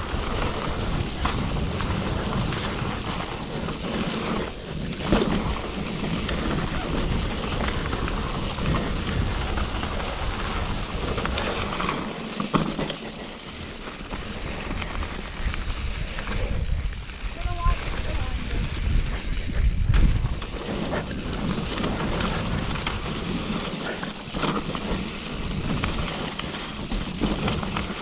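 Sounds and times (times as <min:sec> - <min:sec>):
wind buffeting microphone: 0:00.0 - 0:12.2, 0:13.5 - 0:28.0
bike knocking on bumps: 0:00.0 - 0:28.0
bike tyre and drivetrain rumble: 0:00.0 - 0:28.0.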